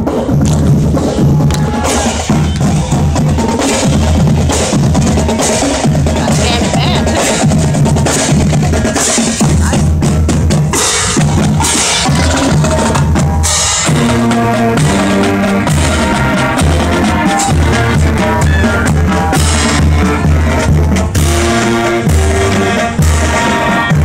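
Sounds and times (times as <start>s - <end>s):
drums and cymbals beating: 0.0s - 24.0s
horns holding notes: 0.9s - 24.0s.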